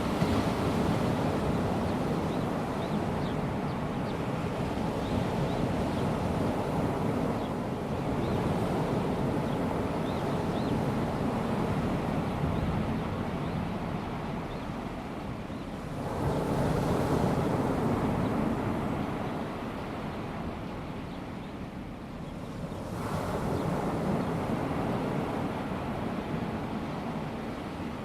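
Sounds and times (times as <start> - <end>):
waves lapping on a sandy beach: 0.0 - 28.0.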